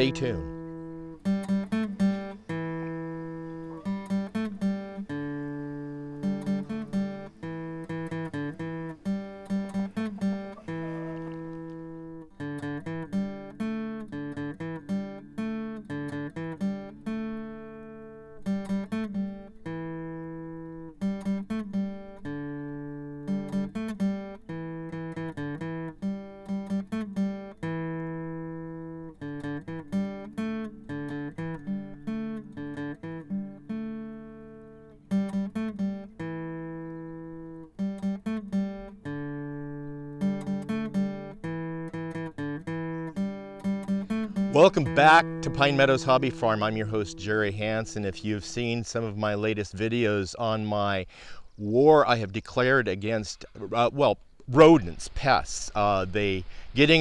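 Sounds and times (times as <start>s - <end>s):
plucked acoustic guitar: 0.0s - 51.4s.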